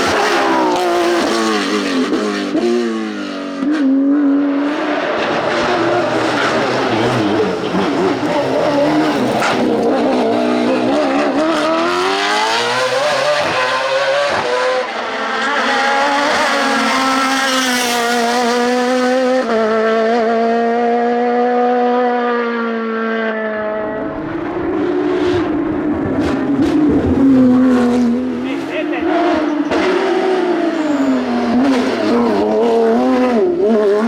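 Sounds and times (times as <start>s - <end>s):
rally car engine accelerating: 0.0s - 34.0s.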